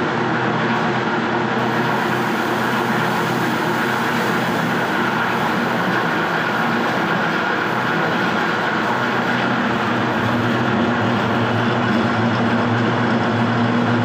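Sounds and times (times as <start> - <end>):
machine mechanical hum: 0.0 - 14.0.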